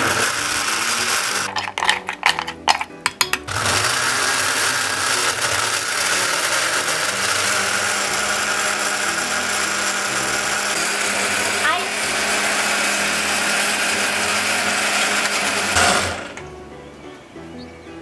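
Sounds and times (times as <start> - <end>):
blender crushing ice: 0.0 - 16.4.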